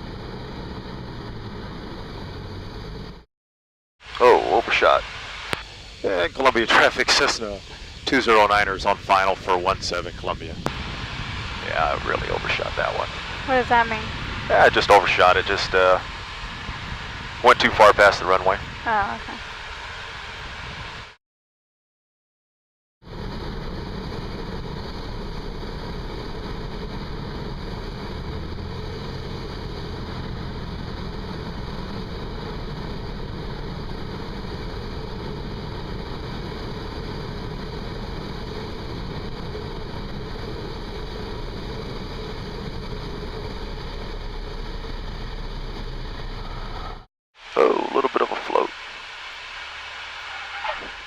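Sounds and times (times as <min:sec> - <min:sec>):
propeller plane engine droning: 0:00.0 - 0:03.3, 0:04.0 - 0:21.2, 0:23.0 - 0:51.0.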